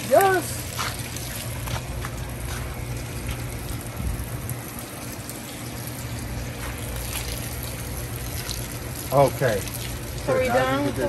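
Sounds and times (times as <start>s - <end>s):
hose spraying water onto soil: 0.0s - 11.0s
steady low hum: 0.0s - 11.0s.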